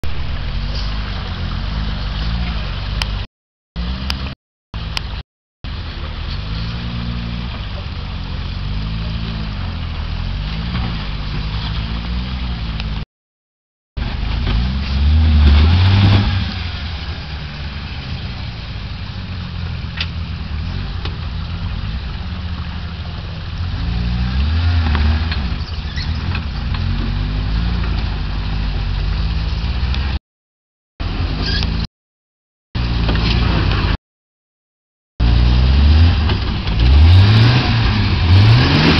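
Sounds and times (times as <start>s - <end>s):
off-road vehicle engine revving: 0.0s - 13.0s, 14.0s - 30.2s, 35.2s - 38.9s.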